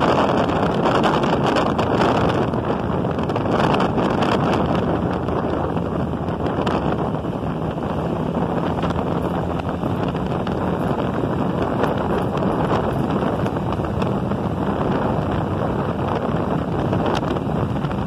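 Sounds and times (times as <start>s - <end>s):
motorcycle engine hum: 0.0s - 18.0s
wind buffeting microphone: 0.0s - 18.0s.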